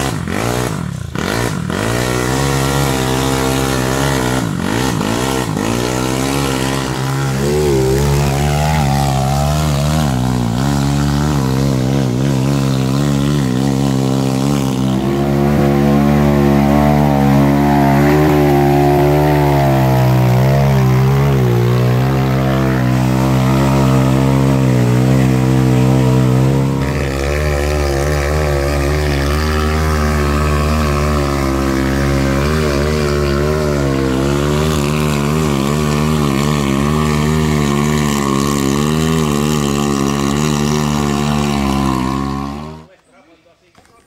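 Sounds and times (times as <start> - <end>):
go-kart engine under load: 0.0 - 42.9.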